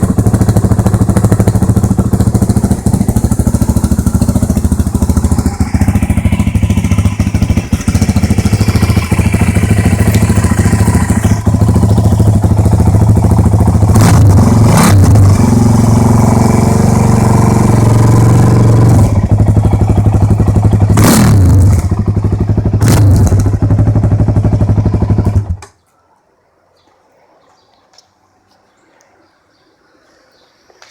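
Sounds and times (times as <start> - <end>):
motorcycle engine revving: 0.0 - 25.7.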